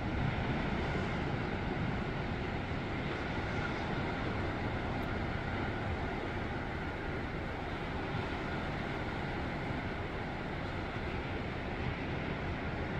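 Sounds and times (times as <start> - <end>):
distant ocean surf: 0.0 - 12.9
wind: 0.0 - 12.9.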